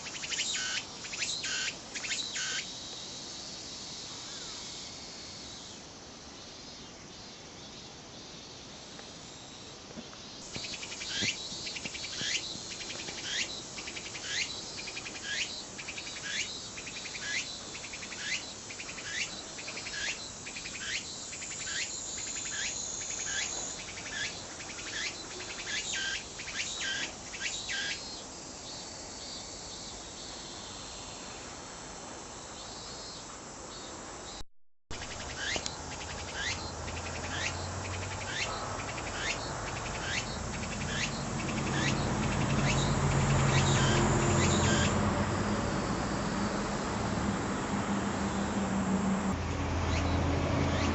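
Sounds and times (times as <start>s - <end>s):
cicada singing: 0.0s - 31.5s, 32.4s - 50.9s.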